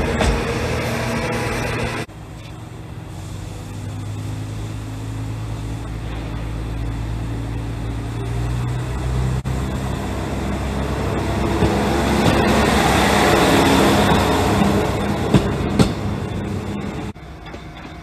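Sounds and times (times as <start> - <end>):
diesel railcar engine drone: 0.0 - 18.0
wheels on rails: 0.0 - 18.0.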